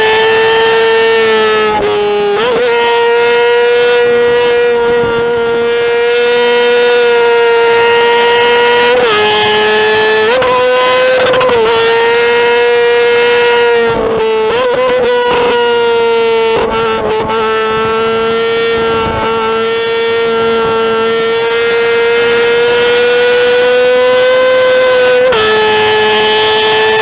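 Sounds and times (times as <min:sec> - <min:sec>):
motorcycle engine revving high: 0:00.0 - 0:27.0.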